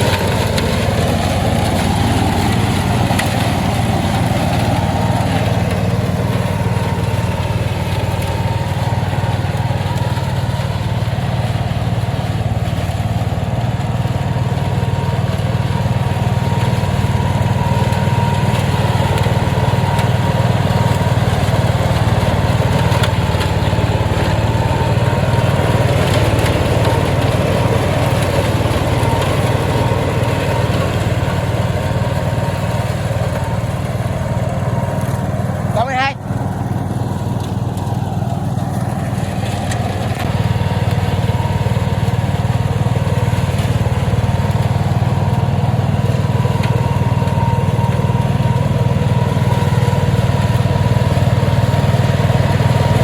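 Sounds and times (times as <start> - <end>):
flail mower engine drone: 0.0 - 53.0.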